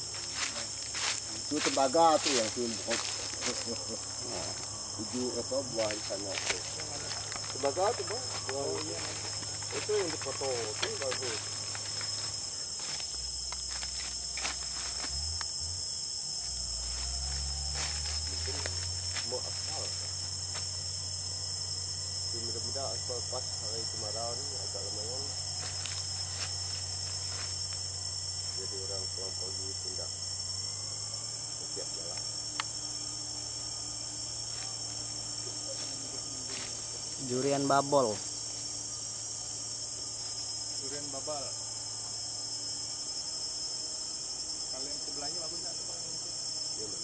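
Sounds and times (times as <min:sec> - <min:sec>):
insect chorus drone: 0:00.0 - 0:47.0.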